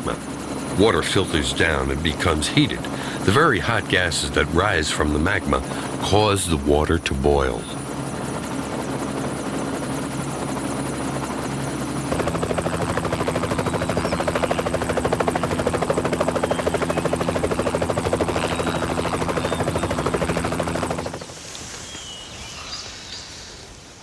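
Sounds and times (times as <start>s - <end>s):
helicopter engine and rotor: 0.0s - 21.4s
faint outdoor noise: 0.0s - 24.0s.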